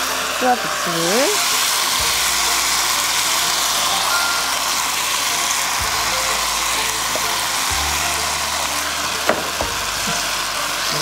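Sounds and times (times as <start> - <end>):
background music with slow bass: 0.0 - 11.0
meat and onion sizzling in a pan: 0.0 - 11.0.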